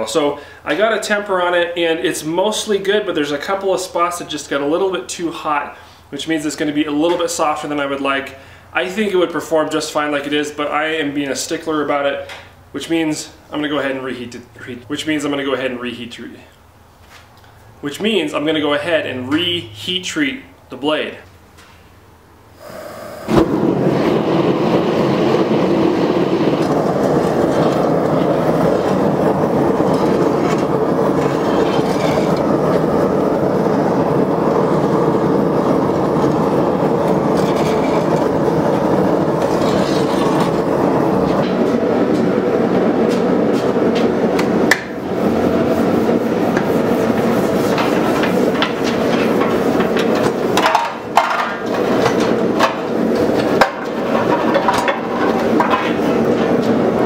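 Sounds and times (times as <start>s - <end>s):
gas forge burner roaring: 0.0s - 15.7s, 21.5s - 57.0s.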